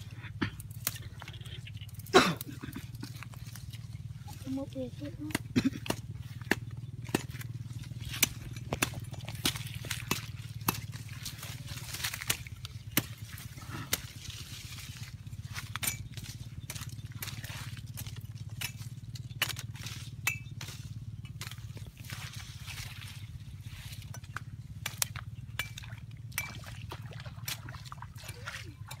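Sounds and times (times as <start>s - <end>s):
cleaver chopping brush and soil: 0.0s - 29.0s
steady low hum: 0.0s - 29.0s.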